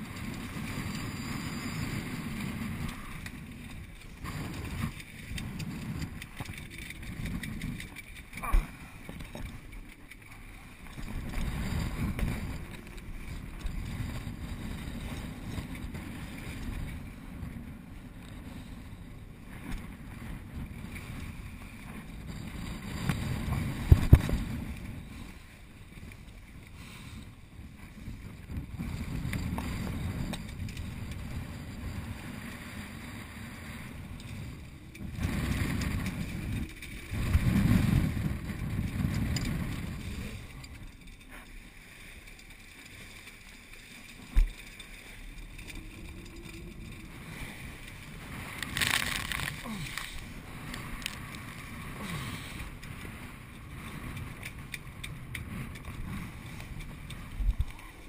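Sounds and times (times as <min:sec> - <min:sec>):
wind buffeting microphone: 0:00.0 - 0:41.2, 0:44.2 - 0:58.0
sail cloth rustling and flapping: 0:00.0 - 0:58.0.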